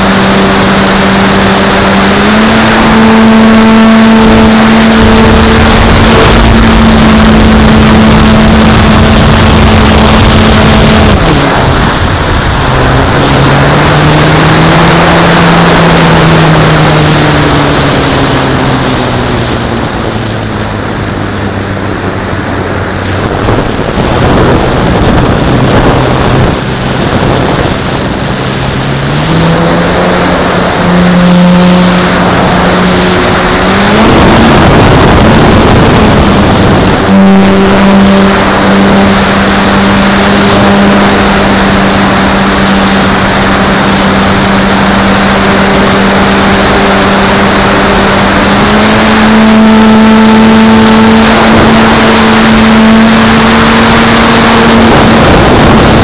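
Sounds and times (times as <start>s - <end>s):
model plane motor droning: 0.0s - 56.0s
wind rush on microphone: 0.0s - 56.0s.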